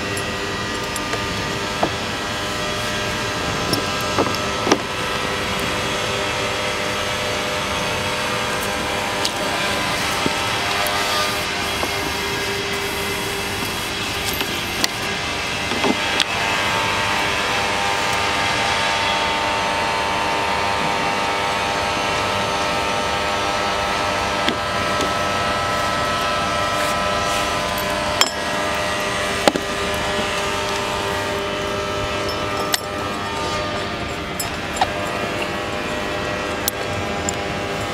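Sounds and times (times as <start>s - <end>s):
mechanical drone with held tones: 0.0s - 37.9s.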